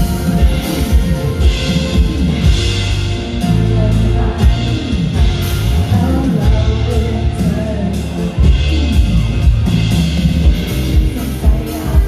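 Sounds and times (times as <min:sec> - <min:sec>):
live pop band playing: 0:00.0 - 0:12.0
woman singing: 0:00.0 - 0:12.0.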